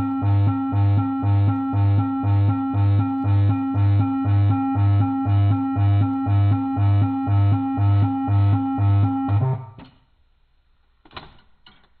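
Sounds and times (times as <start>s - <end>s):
deep two-pitch electronic siren: 0.0s - 9.8s.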